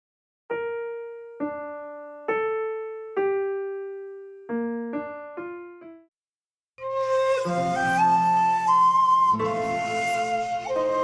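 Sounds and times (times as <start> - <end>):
slow piano-like keyboard melody: 0.5 - 6.1, 6.8 - 11.0.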